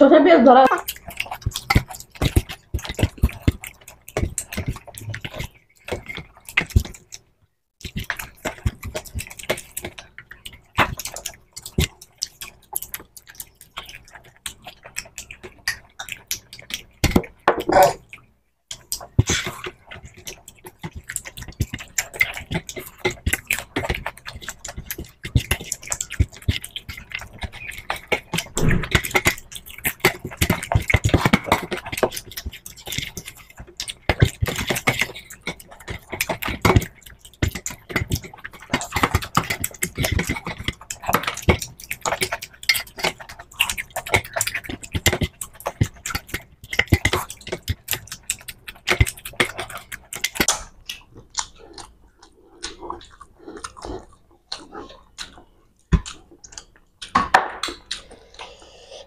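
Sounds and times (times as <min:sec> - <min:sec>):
wet chewing and lip-smacking: 0:00.7 - 0:59.0.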